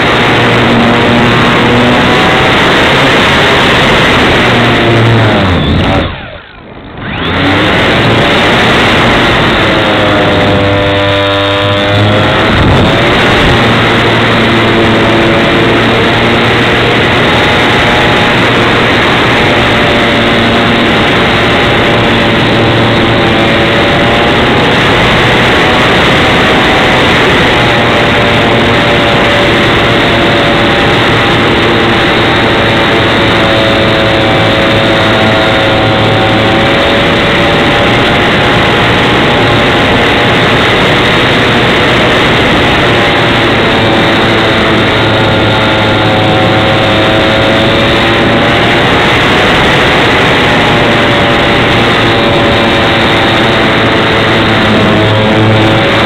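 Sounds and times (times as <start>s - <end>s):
model plane motor and propeller: 0.0s - 56.0s
rushing airflow: 0.0s - 56.0s.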